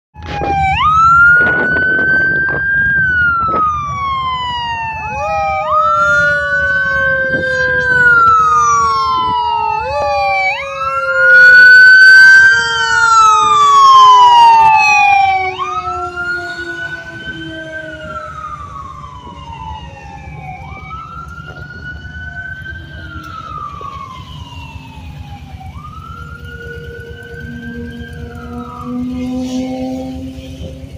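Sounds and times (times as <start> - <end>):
fire truck siren wailing: 0.2 - 30.9
low road rumble: 0.2 - 30.9.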